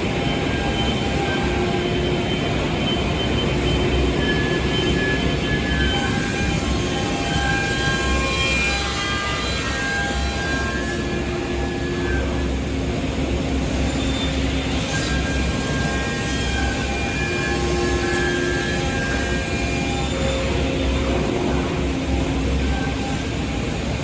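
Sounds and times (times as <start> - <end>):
machining center drone: 0.0 - 24.0
steady machine tones: 0.0 - 24.0.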